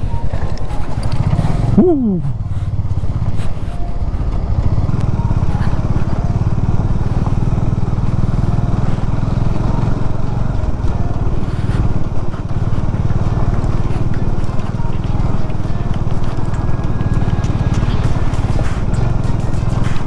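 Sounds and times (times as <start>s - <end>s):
motorcycle engine rumble: 0.0s - 20.0s.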